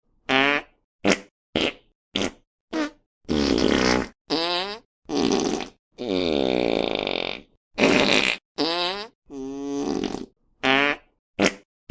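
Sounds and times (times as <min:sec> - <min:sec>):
fart sound effects: 0:00.3 - 0:11.9.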